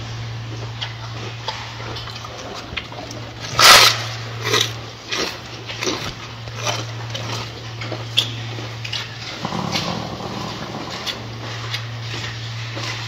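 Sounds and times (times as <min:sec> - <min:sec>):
gorilla chewing lettuce: 0:00.0 - 0:13.0
steady low hum: 0:00.0 - 0:13.0.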